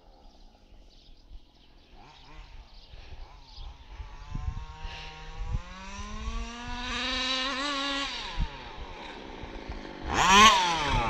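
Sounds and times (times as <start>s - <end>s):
two-stroke engine revving: 1.9s - 11.0s.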